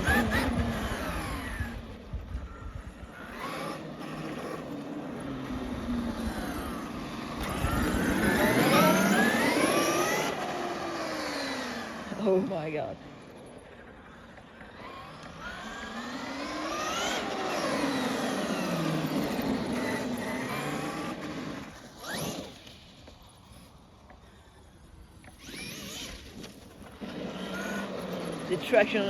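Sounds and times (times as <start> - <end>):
electric rc truck motor whine: 0.0 - 29.0.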